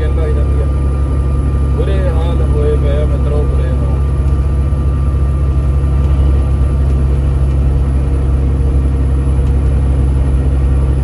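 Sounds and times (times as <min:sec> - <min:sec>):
faint constant whine: 0:00.0 - 0:11.0
truck diesel engine rumble: 0:00.0 - 0:11.0.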